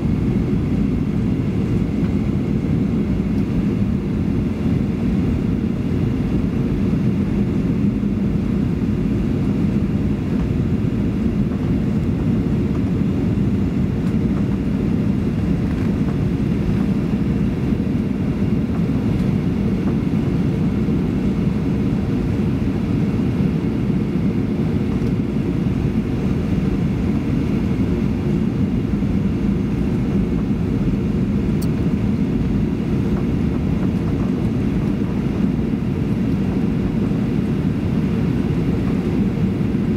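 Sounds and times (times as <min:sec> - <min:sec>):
airplane cabin airflow and jet engines: 0:00.0 - 0:39.9.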